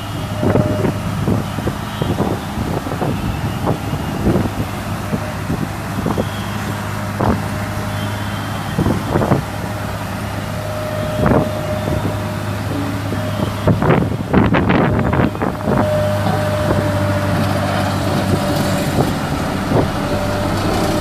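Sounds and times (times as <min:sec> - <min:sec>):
road roller engine running: 0:00.0 - 0:21.0.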